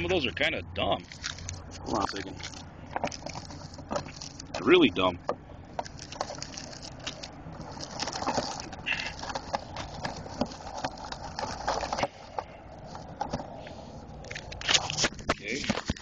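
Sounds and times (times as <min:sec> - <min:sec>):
rustling and scraping: 0:00.9 - 0:16.0.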